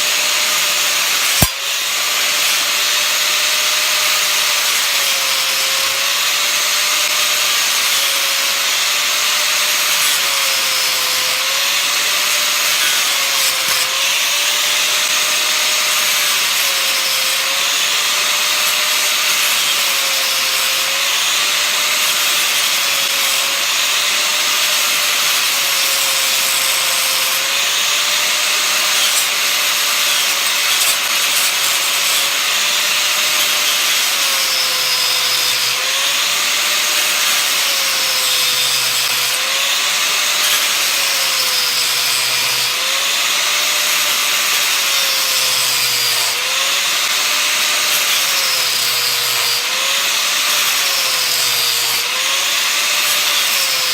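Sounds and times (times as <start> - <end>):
angle grinder cutting metal: 0.0 - 53.9.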